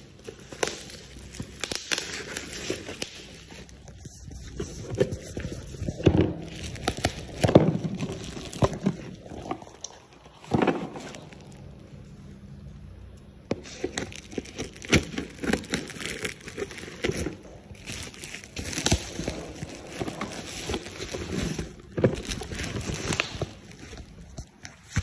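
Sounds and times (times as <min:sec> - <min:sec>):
packaging crinkling and rustling: 0:00.0 - 0:11.8, 0:13.5 - 0:25.0.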